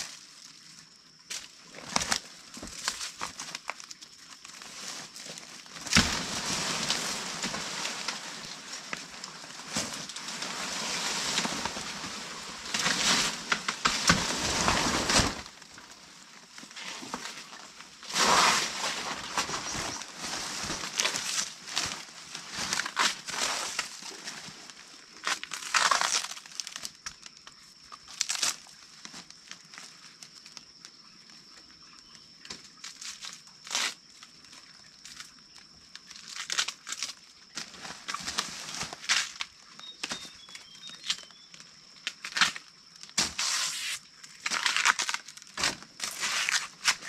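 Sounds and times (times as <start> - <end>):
dry material crinkling and rustling: 0.0 - 30.7, 32.4 - 47.0.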